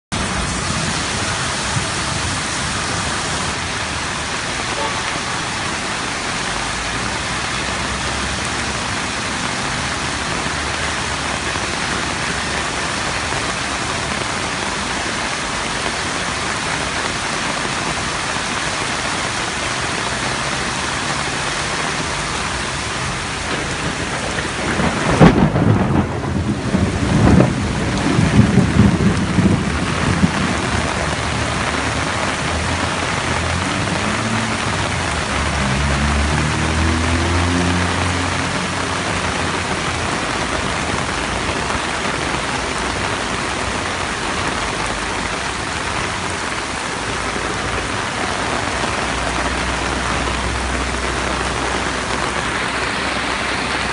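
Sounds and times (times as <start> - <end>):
heavy rain: 0.0 - 53.9
rushing floodwater: 0.1 - 53.9.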